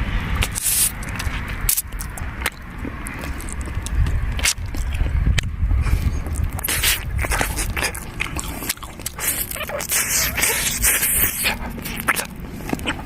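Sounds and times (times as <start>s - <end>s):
small crunches and clicks: 0.4s - 5.5s, 6.2s - 13.0s
person chewing meat: 0.4s - 13.0s.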